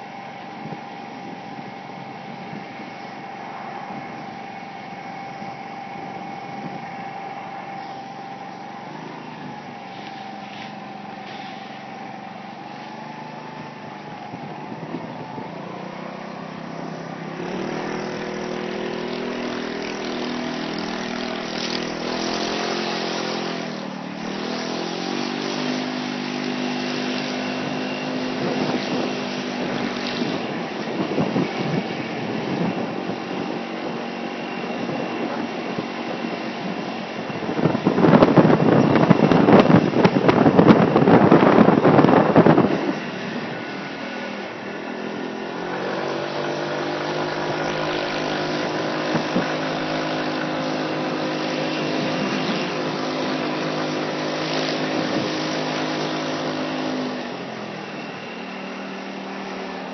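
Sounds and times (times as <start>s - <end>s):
moped engine running: 0.0s - 59.9s.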